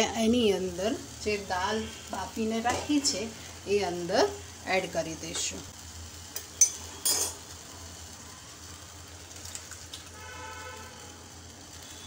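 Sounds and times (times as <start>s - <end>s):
faint sizzle of simmering food: 0.0s - 12.0s.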